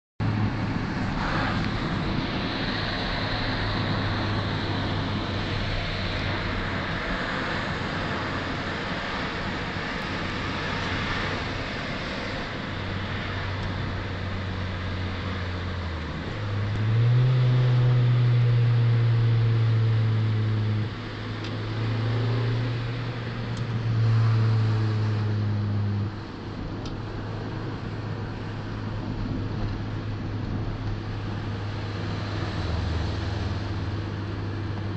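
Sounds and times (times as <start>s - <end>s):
car engine droning and revving: 0.2s - 34.9s.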